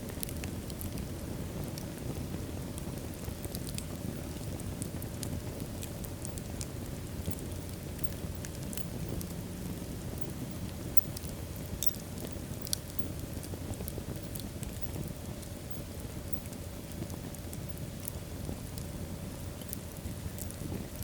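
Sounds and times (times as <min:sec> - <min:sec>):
fire crackling and popping: 0:00.0 - 0:21.0
flames rumbling: 0:00.0 - 0:21.0.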